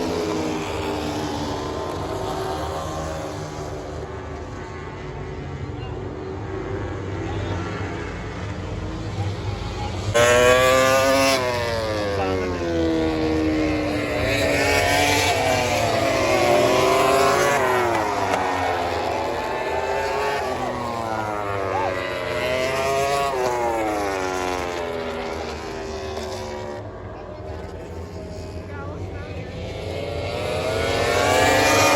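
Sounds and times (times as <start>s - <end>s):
race motorcycles passing: 0.0s - 31.9s.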